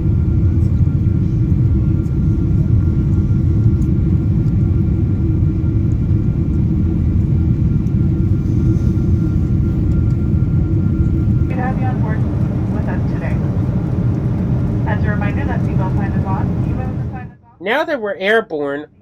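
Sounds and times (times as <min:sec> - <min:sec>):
airplane cabin engine rumble: 0:00.0 - 0:17.4.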